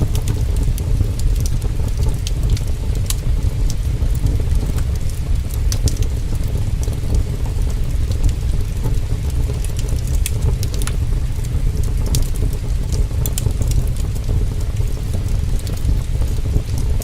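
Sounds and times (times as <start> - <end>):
heavy rain: 0.0 - 17.0
wood fire crackling: 0.0 - 17.0.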